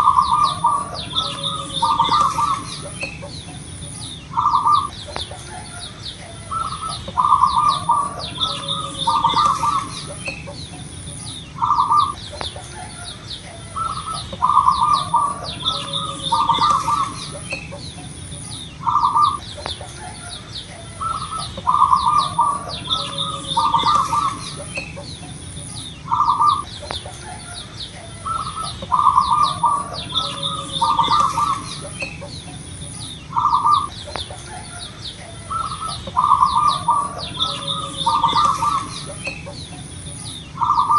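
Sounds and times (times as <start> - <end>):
dove cooing: 0.0 - 40.9
small birds chirping: 0.0 - 40.9.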